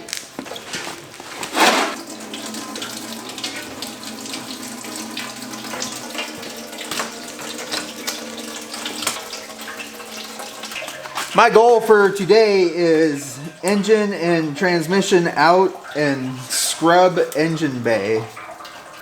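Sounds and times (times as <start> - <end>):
coolant splashing stream: 0.0 - 19.0.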